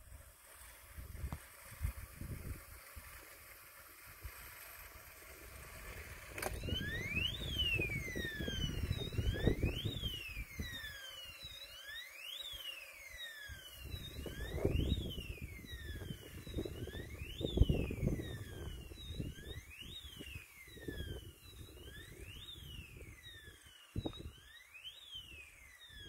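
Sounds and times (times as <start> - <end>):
electronic siren-like alarm tone: 3.9 - 26.0.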